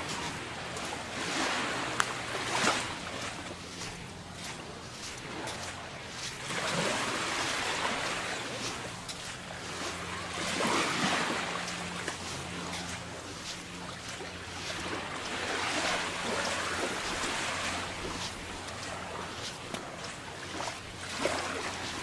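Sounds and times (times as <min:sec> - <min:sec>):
waves washing onto sandy beach: 0:00.0 - 0:22.0.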